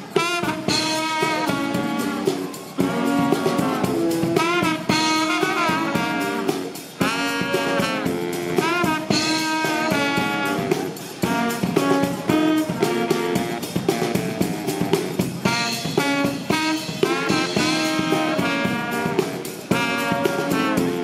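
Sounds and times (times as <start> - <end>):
brass lines with sliding notes: 0.0 - 21.0
steady beat: 0.0 - 21.0.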